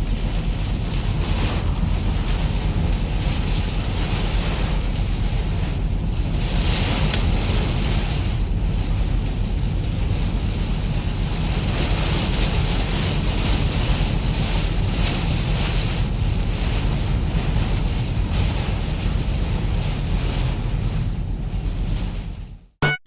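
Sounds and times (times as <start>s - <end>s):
wind buffeting microphone: 0.0s - 22.6s.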